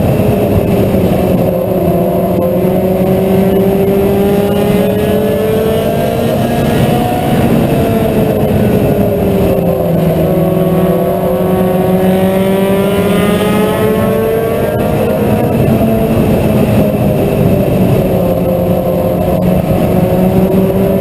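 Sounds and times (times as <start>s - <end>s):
race car engine running hard: 0.0s - 21.0s.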